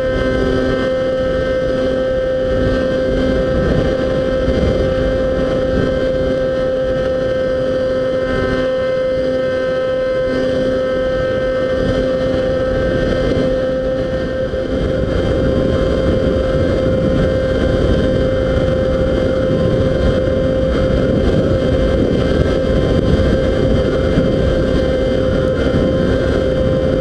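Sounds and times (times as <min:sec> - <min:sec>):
model plane motor whine: 0:00.0 - 0:27.0
wind rushing across microphone: 0:00.0 - 0:27.0.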